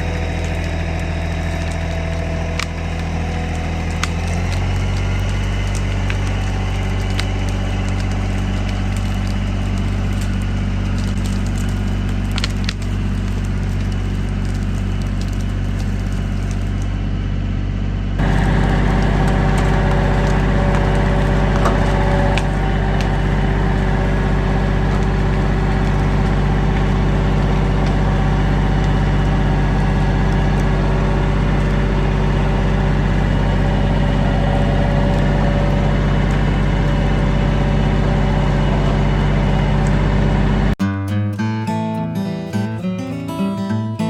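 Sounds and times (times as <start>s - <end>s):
engine idling: 0.0s - 40.8s.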